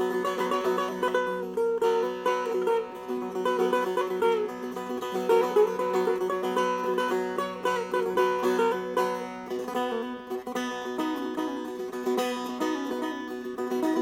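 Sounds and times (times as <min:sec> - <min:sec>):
plucked lute melody with drones: 0:00.0 - 0:14.0.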